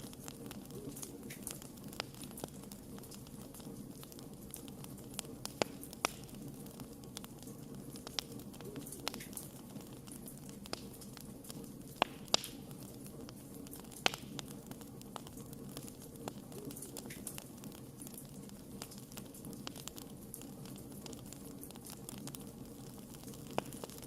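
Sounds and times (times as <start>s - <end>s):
campfire flame rushing: 0.0s - 24.0s
crackles and pops of burning wood: 0.0s - 24.0s.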